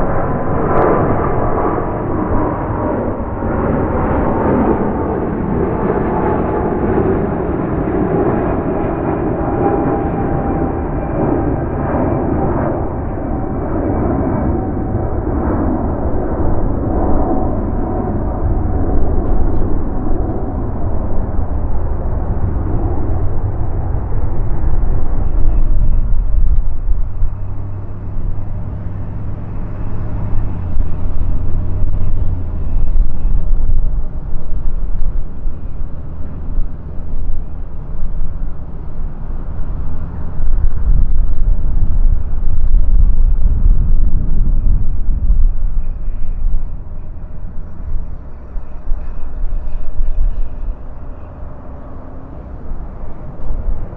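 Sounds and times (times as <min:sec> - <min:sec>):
jet engines rumbling: 0:00.0 - 0:53.9.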